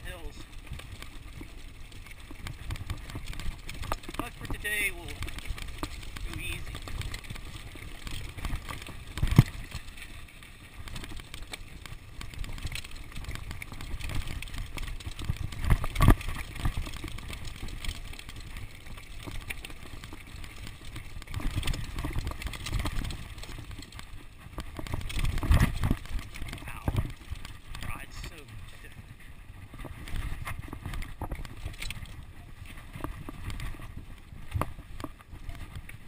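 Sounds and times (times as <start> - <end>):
bike rattling: 0.0 - 36.0
bike tyres rolling over stones: 0.0 - 36.0.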